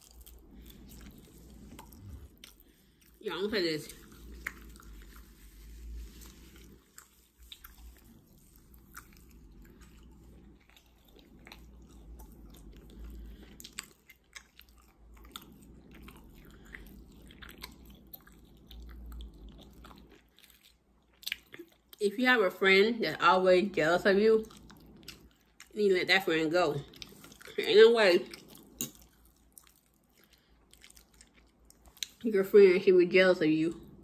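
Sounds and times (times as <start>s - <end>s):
mouth chewing food: 0.0s - 22.0s, 24.1s - 32.3s
low steady hum: 0.0s - 34.0s.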